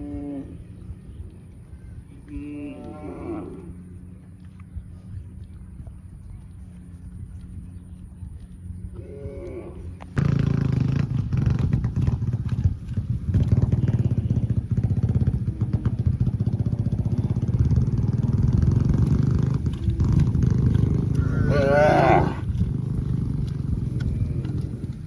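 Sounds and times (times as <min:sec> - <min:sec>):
engine low rumble: 0:00.0 - 0:25.0.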